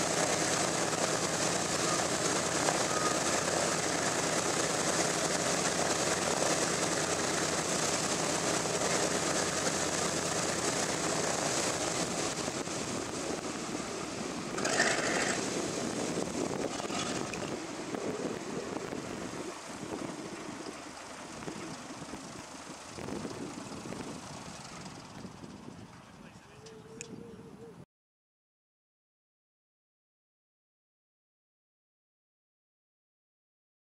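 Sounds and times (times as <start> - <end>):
propeller aircraft engines droning: 0.0 - 27.8.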